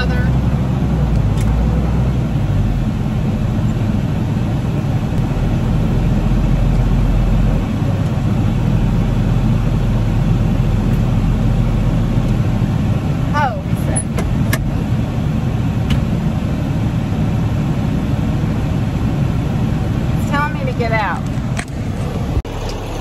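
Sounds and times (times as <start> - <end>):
air-conditioning fan blowing: 0.0 - 23.0
tractor engine running: 0.0 - 23.0.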